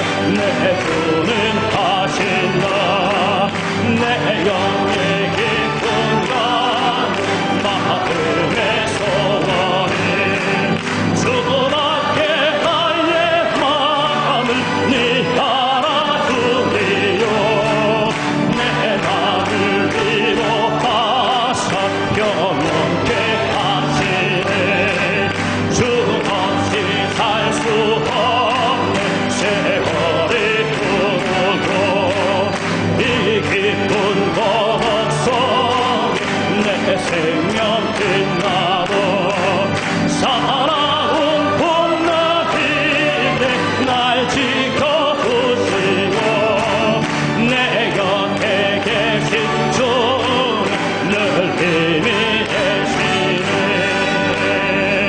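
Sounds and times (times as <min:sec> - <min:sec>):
congregation singing a hymn: 0:00.0 - 0:55.0
hand clapping: 0:00.0 - 0:55.0.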